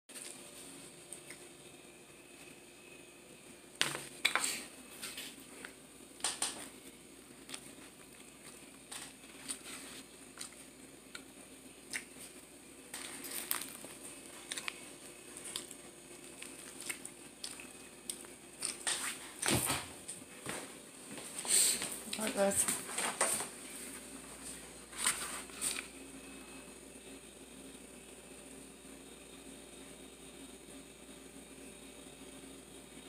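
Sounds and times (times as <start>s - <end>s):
faint steady hum: 0.1s - 33.0s.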